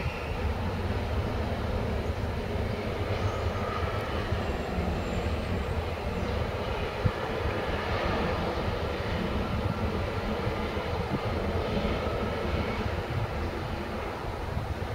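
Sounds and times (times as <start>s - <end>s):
diesel locomotives running: 0.0s - 14.9s.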